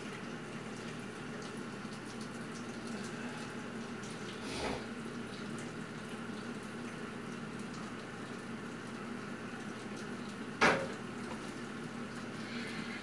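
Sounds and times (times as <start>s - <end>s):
tap water running into sink: 0.0s - 12.9s.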